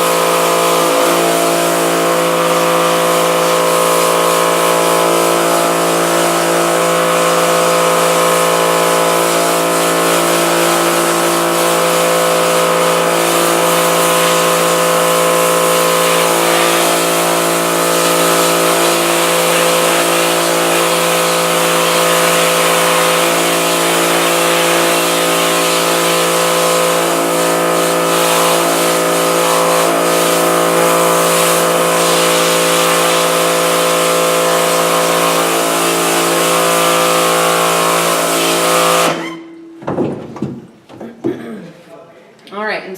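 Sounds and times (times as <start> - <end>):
water jet hissing: 0.0 - 39.4
pressure washer motor hum: 0.0 - 41.5.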